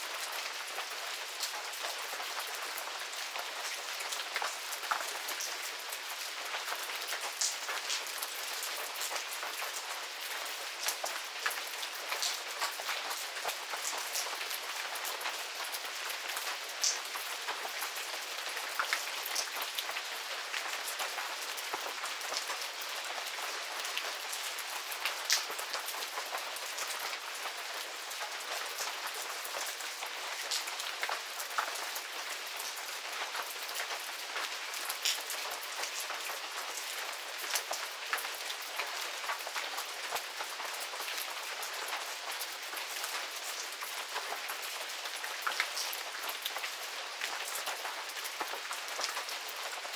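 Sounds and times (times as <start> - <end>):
rain falling on garden: 0.0 - 49.9.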